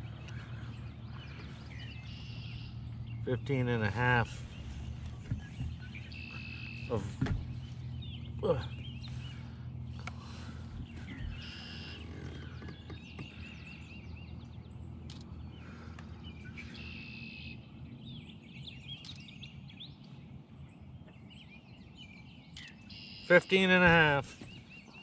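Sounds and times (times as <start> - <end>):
low hum: 0.0 - 22.9
birds chirping and singing: 0.0 - 25.0.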